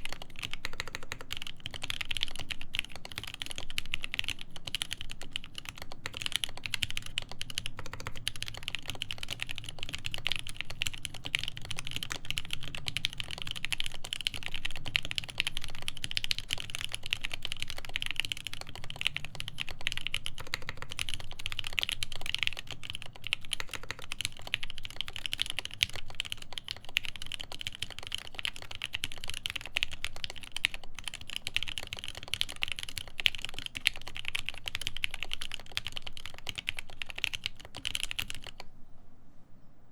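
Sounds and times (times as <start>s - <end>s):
mechanical keyboard typing: 0.0s - 38.7s.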